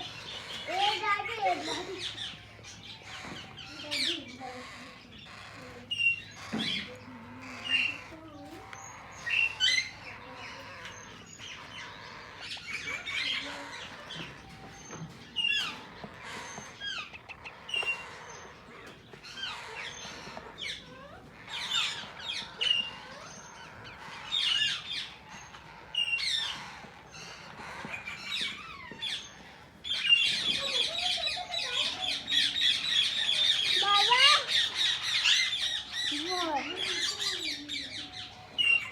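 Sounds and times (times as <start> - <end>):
parakeets chirping and squawking: 0.0 - 38.9.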